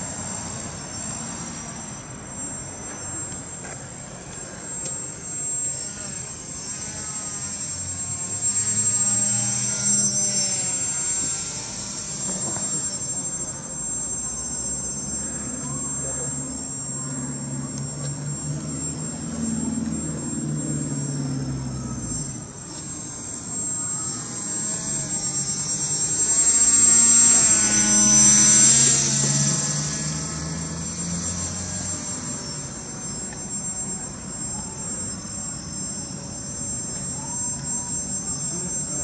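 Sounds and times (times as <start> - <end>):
paraglider motor whining: 0.0 - 39.0.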